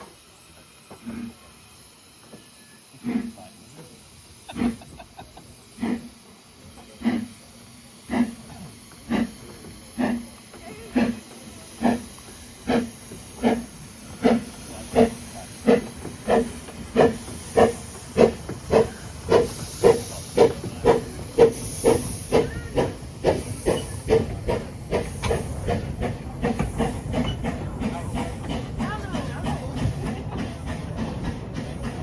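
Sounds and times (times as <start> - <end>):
steam hiss: 0.0 - 32.0
steam locomotive chuffing: 0.0 - 32.0.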